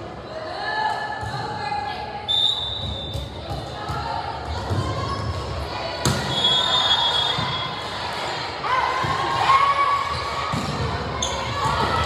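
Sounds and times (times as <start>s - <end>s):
court noise: 0.0s - 12.0s.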